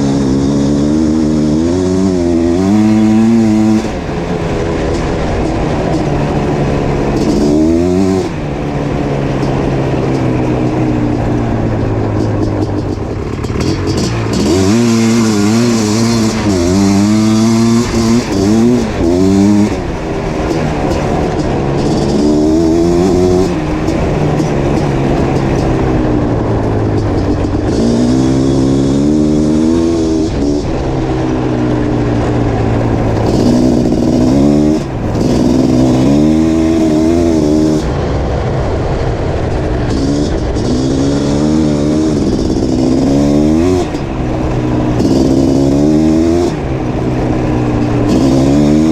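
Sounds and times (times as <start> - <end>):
two-stroke engine revving: 0.0 - 48.9.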